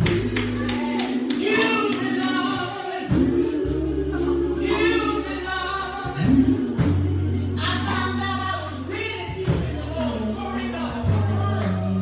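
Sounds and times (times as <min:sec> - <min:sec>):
gospel choir singing: 0:00.0 - 0:12.0
instrumental accompaniment: 0:00.0 - 0:12.0
long held bass notes: 0:00.0 - 0:12.0.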